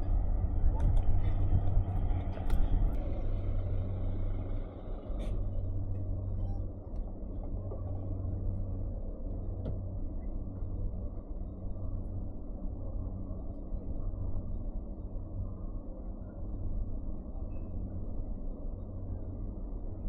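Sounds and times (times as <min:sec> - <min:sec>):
wind rumble: 0:00.0 - 0:20.0.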